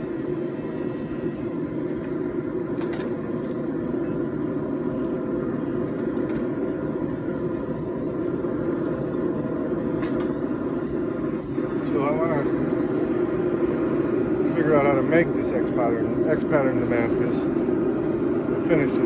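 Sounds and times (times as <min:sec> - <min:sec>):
forge rushing hum: 0:00.0 - 0:19.0.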